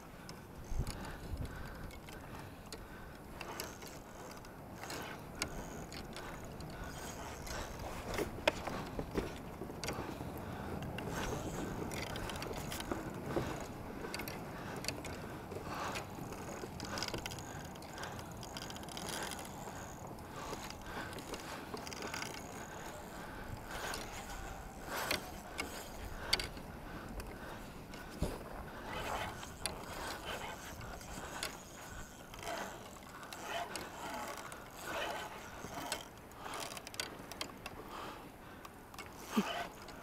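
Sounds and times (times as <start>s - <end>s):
fishing reel cranking and clicking: 0.6s - 10.2s, 10.9s - 28.1s, 28.7s - 38.1s, 38.9s - 40.0s.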